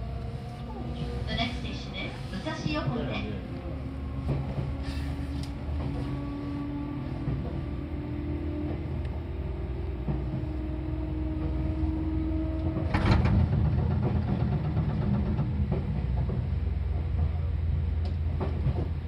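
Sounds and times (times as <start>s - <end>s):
electric train rumbling on rails: 0.0s - 19.0s
train hum: 0.0s - 19.0s.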